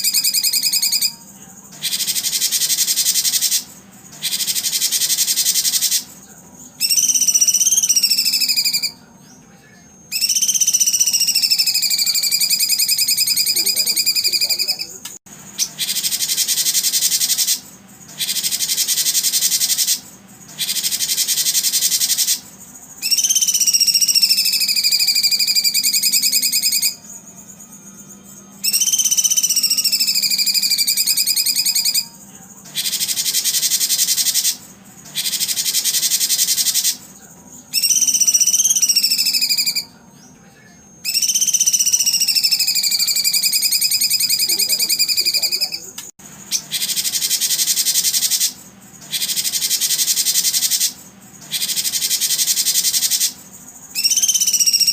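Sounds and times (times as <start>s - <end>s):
insect buzzing: 0.0s - 9.0s, 10.0s - 37.0s, 41.0s - 54.9s
whistled bird calls: 0.0s - 9.4s, 10.1s - 40.4s, 41.0s - 45.9s, 46.5s - 54.9s.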